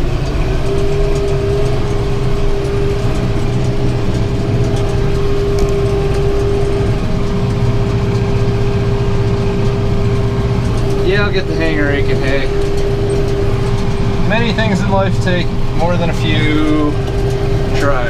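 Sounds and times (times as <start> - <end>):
steady whine: 0.0 - 18.0
tractor engine drone: 0.0 - 18.0.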